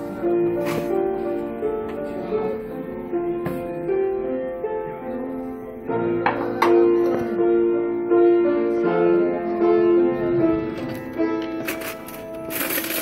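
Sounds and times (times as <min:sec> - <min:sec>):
instrumental background music: 0:00.0 - 0:13.0.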